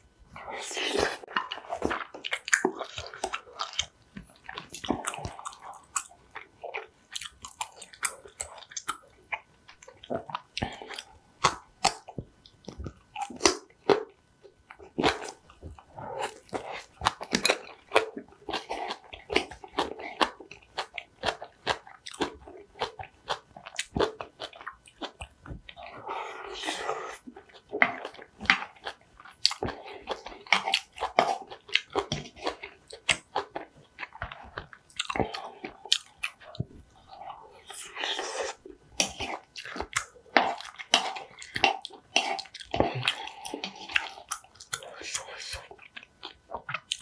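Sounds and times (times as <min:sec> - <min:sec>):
close chewing of food: 0:00.0 - 0:47.0.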